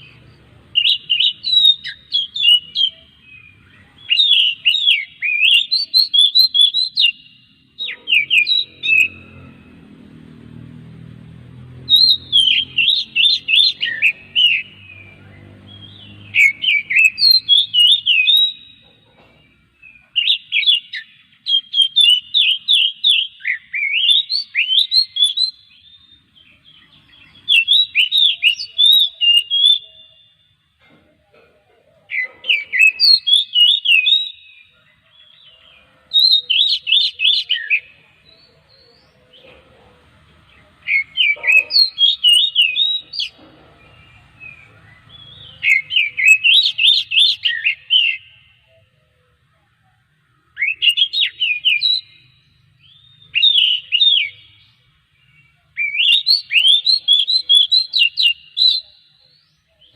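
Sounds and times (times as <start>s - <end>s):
magpie-robin singing: 0.0s - 10.3s, 11.6s - 30.6s, 32.0s - 59.9s.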